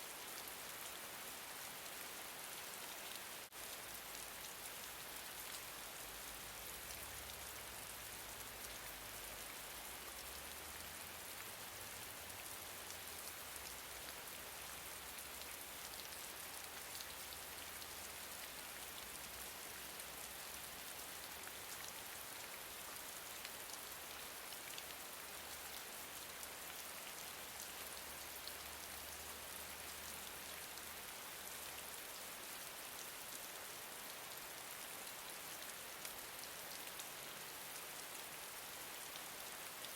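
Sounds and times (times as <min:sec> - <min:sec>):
gentle rain ticking on surface: 0:00.0 - 0:39.9.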